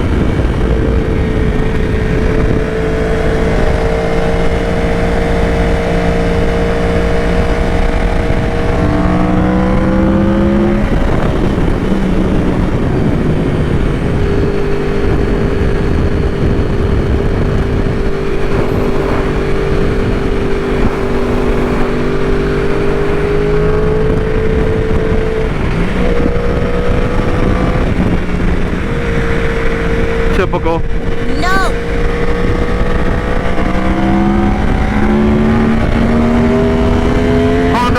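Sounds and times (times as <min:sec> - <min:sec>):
motorcycle engine revving: 0:00.0 - 0:37.9
wind rush on microphone: 0:00.0 - 0:37.9.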